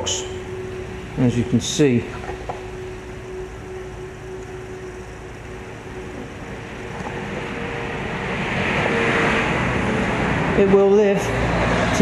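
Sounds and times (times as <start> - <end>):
faint steady tone: 0.0 - 10.8
background hum and noise: 0.0 - 12.0.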